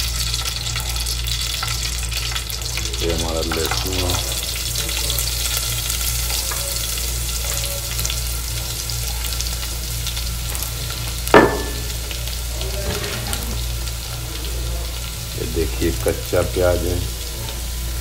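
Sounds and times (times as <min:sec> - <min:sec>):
seeds sizzling in hot oil: 0:00.0 - 0:18.0.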